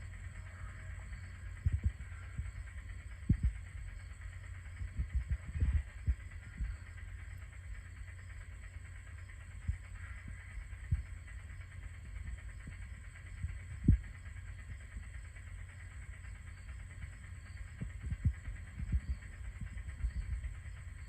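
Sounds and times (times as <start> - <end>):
faint high whine: 0.0 - 21.0
dull low thumps: 1.0 - 8.6, 9.6 - 21.0.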